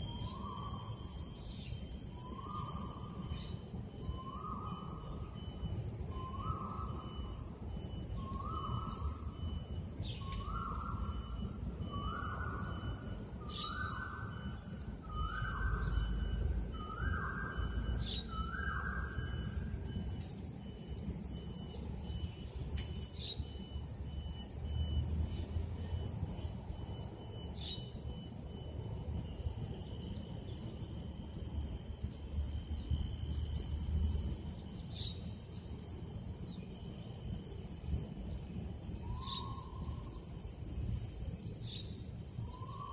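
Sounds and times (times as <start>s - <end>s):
bird chirps: 0.0s - 42.9s
birds twittering: 0.0s - 42.9s.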